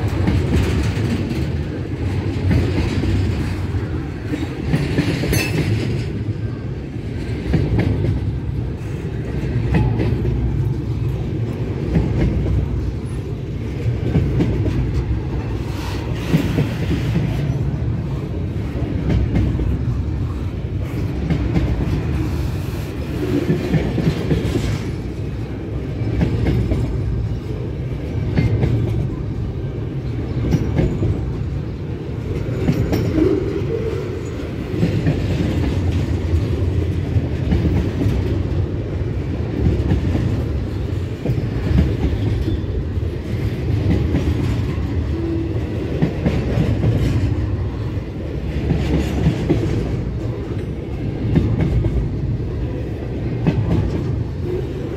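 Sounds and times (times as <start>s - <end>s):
wheels clacking over rail joints: 0.0s - 6.4s, 7.0s - 54.9s
train wheels rumbling on rails: 0.0s - 54.9s.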